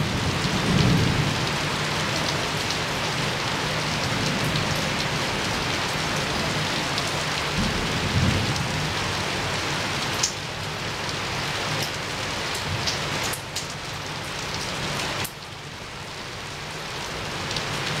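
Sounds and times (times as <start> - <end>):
rain against a window: 0.0 - 18.0.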